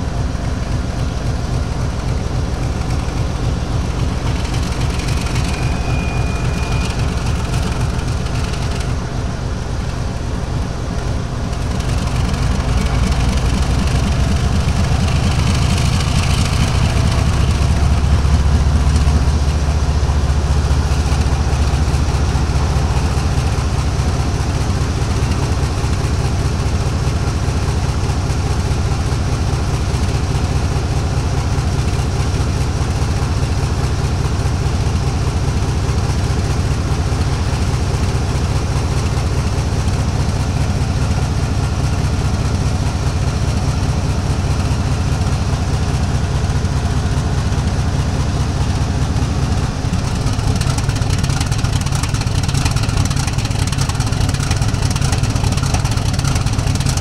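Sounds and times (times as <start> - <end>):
locomotive engine droning: 0.0 - 57.0.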